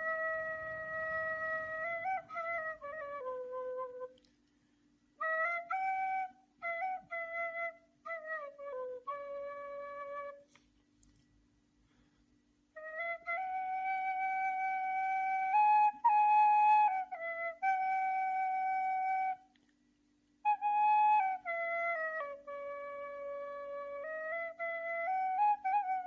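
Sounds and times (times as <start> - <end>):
reed flute slow melody: 0.0 - 11.2, 11.9 - 19.7, 20.4 - 26.0.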